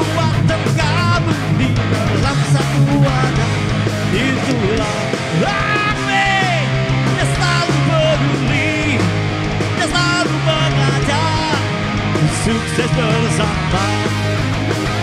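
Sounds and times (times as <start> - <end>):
man singing: 0.0 - 9.1, 9.8 - 14.3
bass: 0.0 - 15.0
drums: 0.0 - 15.0
electric guitars: 0.0 - 15.0.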